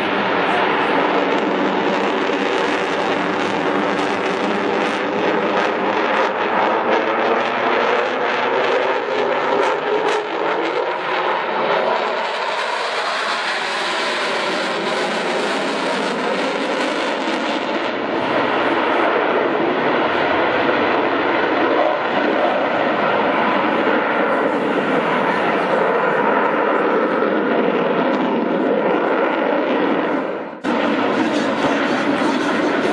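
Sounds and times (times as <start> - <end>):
loud jet noise: 0.0 - 32.9.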